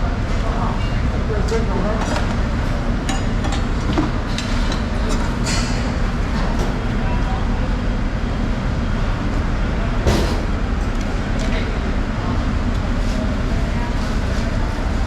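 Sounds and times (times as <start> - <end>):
background chatter: 0.0 - 15.0.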